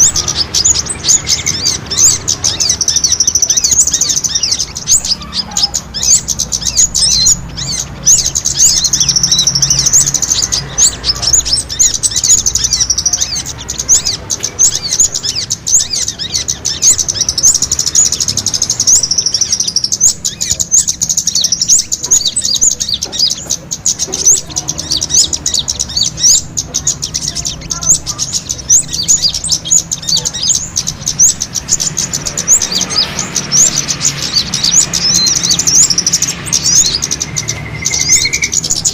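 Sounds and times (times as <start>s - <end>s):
small birds chirping rapidly: 0.0s - 38.9s.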